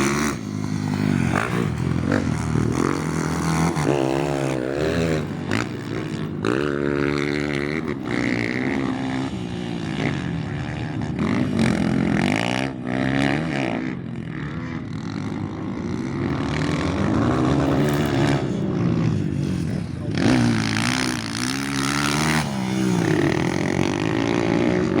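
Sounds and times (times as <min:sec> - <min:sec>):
engine revving with loud exhaust: 0:00.0 - 0:25.0.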